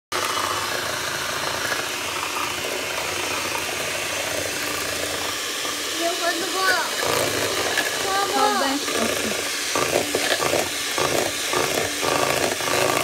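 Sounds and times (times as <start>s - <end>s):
electric hand mixer whipping cream: 0.1s - 13.0s.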